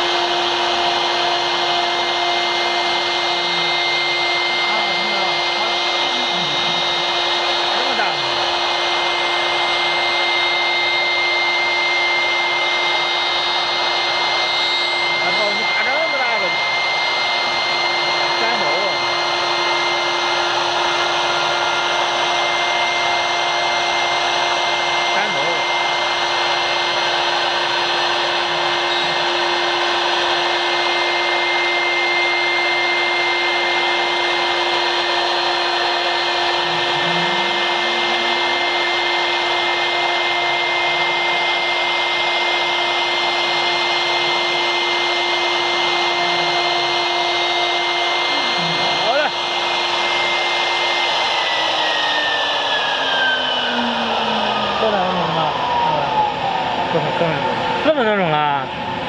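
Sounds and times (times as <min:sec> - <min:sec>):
router spindle running high pitch: 0:00.0 - 0:59.0.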